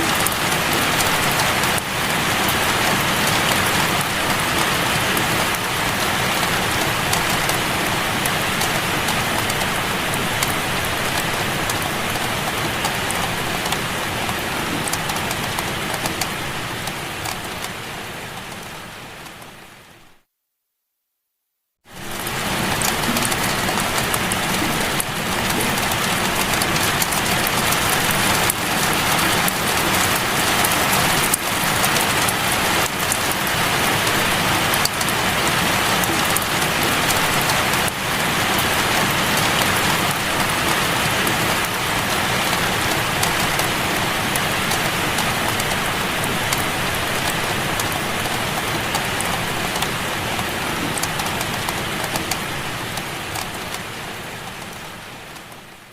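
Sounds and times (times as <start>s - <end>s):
steady rain falling: 0.0s - 20.3s, 21.8s - 55.9s.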